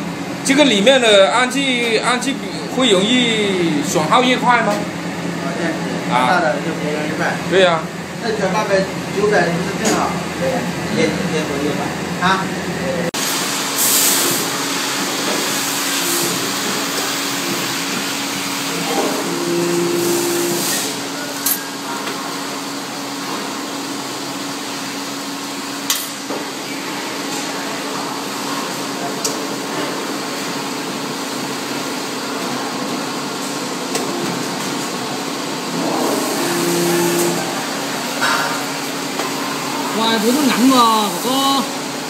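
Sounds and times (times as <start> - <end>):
furnace hissing: 0.0 - 42.0.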